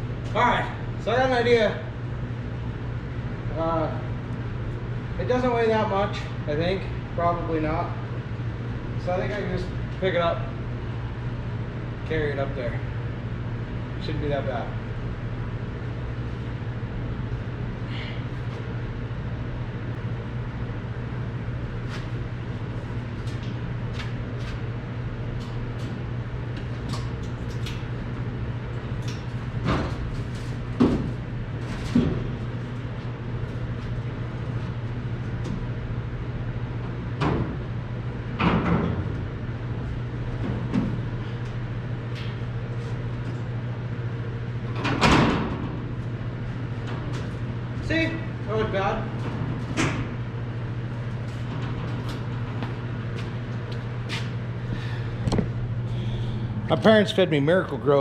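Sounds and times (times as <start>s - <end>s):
low hum: 1.8s - 58.0s.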